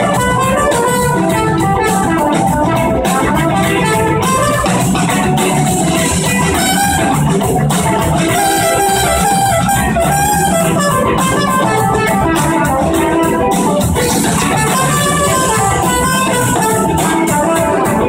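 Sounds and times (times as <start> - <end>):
bass guitar: 0.0 - 18.0
electric guitars: 0.0 - 18.0
steady drum beat: 0.0 - 18.0.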